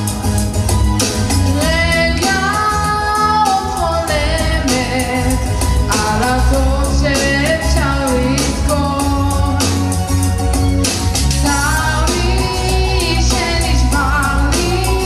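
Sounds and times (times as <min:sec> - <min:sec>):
instrumental accompaniment with bass: 0:00.0 - 0:15.0
woman singing into microphone: 0:01.4 - 0:09.9, 0:11.4 - 0:15.0.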